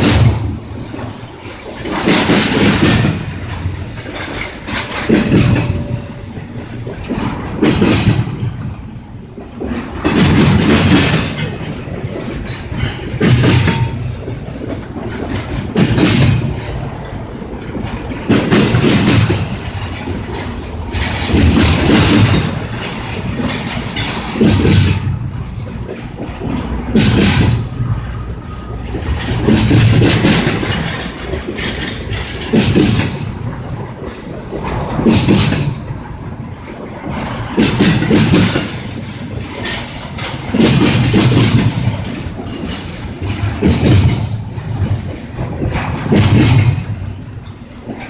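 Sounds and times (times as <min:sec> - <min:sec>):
train running past: 0:00.0 - 0:48.0.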